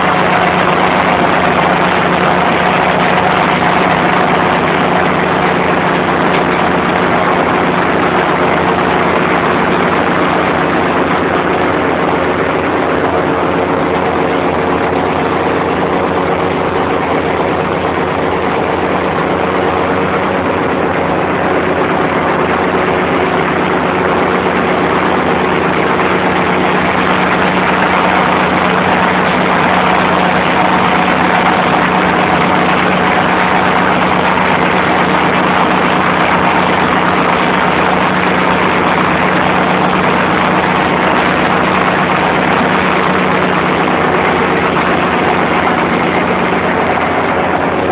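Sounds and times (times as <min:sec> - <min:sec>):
tractor engine mowing grass: 0:00.0 - 0:47.9.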